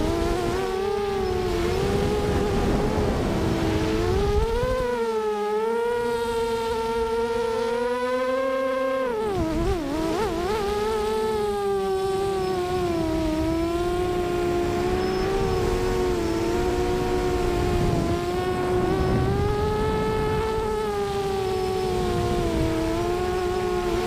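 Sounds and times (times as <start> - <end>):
wind rumble: 0.0 - 5.0, 9.4 - 24.0
quadcopter motors buzzing whine: 0.0 - 24.0.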